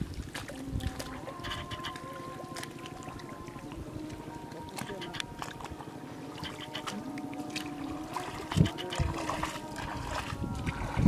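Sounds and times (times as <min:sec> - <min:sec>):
water splashing in a net: 0:00.0 - 0:11.0.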